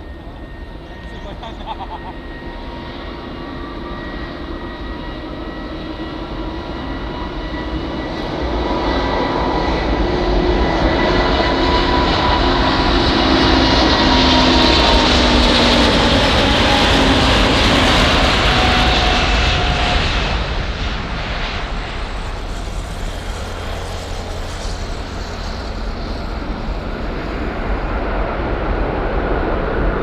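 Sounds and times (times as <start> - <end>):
jet engines roaring with whine: 0.0 - 30.0.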